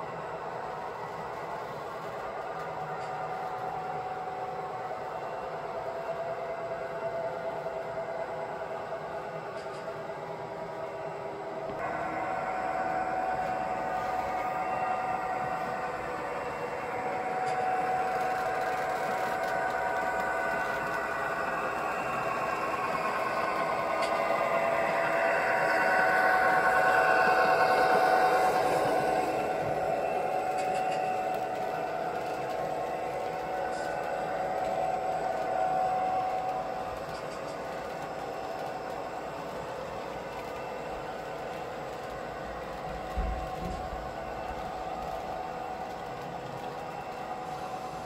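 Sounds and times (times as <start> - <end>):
continuous whine: 0.0 - 48.0
model train running on track: 0.0 - 48.0.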